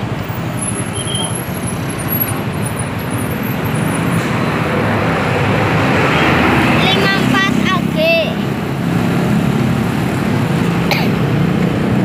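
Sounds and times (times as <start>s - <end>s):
bus engine and tyres passing: 0.0s - 12.0s
road traffic: 0.0s - 12.0s.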